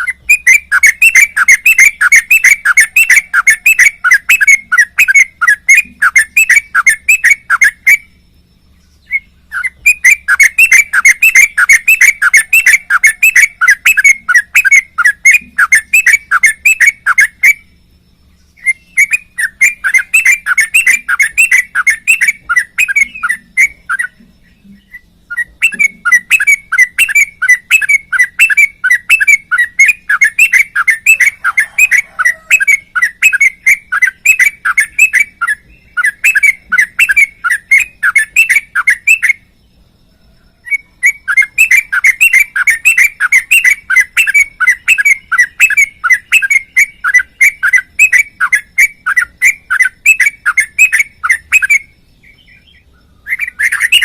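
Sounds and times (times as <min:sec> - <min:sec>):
bird chirping rapidly: 0:00.0 - 0:54.0.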